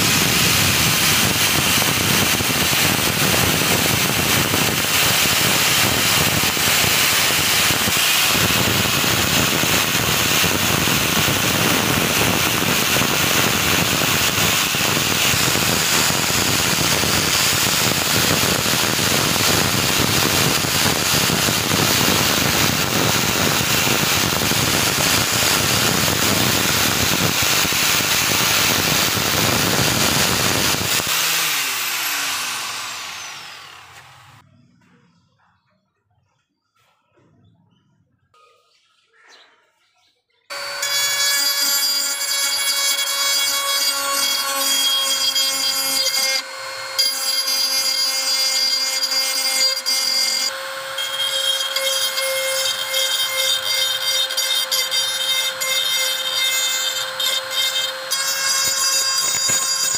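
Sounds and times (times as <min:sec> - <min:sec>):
rotary tool grinding metal: 0:00.0 - 0:34.4, 0:40.5 - 0:59.9.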